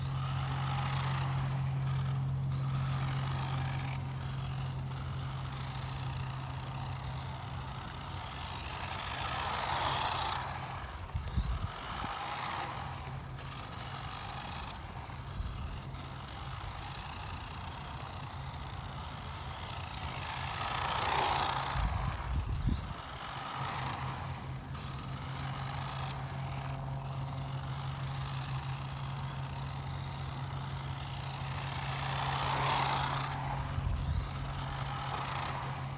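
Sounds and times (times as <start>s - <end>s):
radio-controlled truck motor and tyres: 0.0s - 35.9s
steady low hum: 0.0s - 35.9s.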